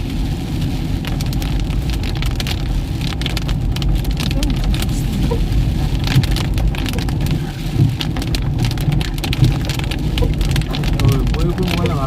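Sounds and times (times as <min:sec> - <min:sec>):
heavy rain hitting a vehicle: 0:00.0 - 0:12.0
vehicle and road rumble: 0:00.0 - 0:12.0.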